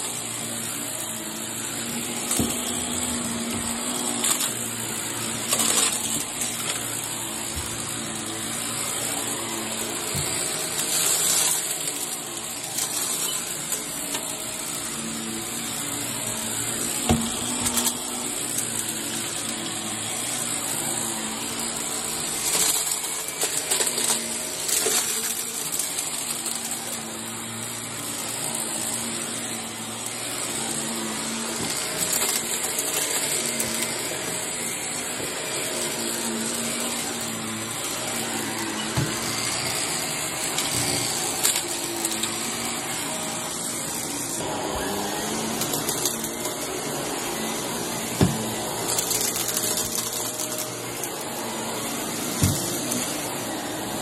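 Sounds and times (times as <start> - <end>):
vacuum cleaner running on carpet: 0.0 - 54.0.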